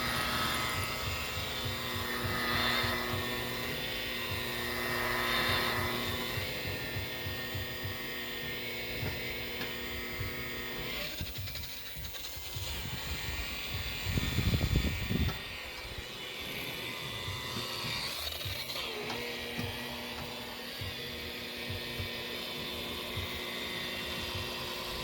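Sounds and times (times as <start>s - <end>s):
power tool motor humming: 0.0s - 25.0s.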